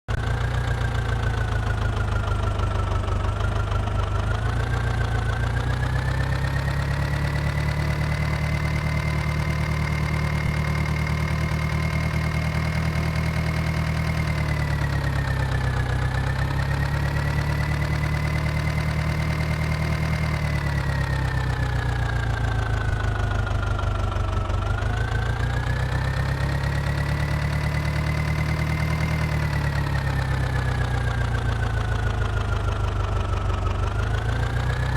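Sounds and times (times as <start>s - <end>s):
tractor diesel engine revving: 0.1s - 34.9s.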